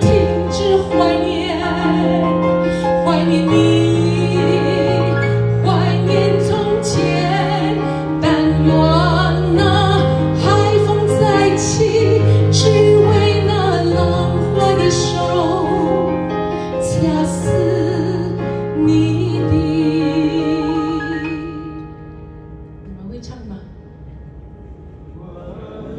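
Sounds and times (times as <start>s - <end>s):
woman singing into a microphone: 0.0s - 21.9s
bass: 0.0s - 25.8s
piano: 0.0s - 25.9s.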